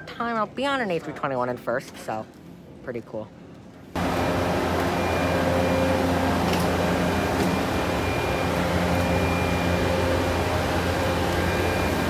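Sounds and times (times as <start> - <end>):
mechanical hum with high whine: 0.0 - 12.0.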